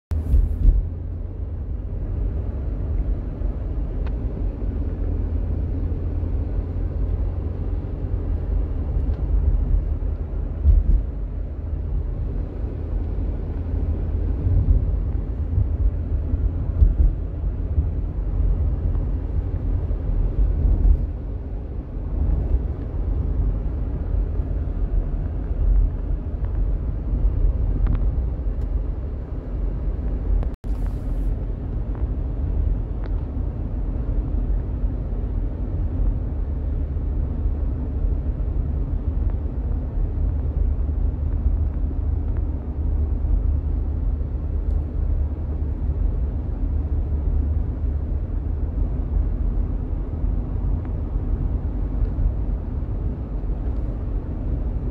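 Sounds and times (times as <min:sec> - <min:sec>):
car driving rumble from inside: 0:00.1 - 0:54.9.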